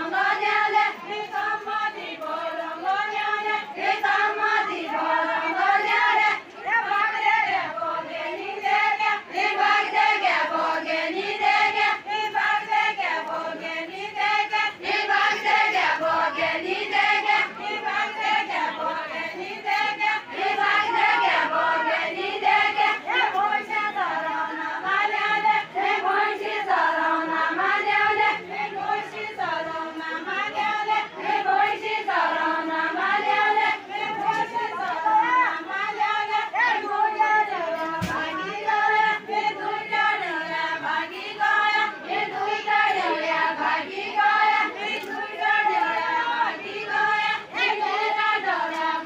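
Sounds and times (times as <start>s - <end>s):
women singing unaccompanied: 0.0s - 49.0s.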